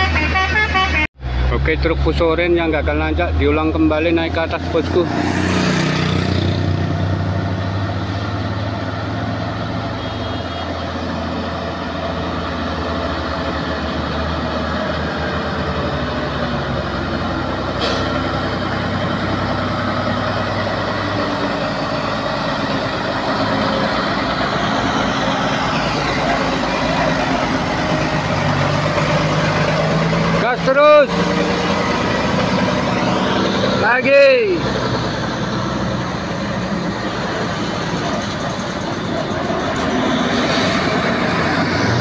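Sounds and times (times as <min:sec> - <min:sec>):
truck diesel engine drone: 0:00.0 - 0:42.0.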